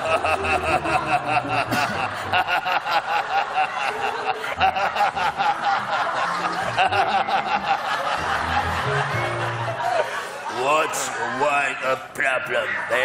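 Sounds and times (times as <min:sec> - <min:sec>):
people laughing hard: 0:00.0 - 0:13.0.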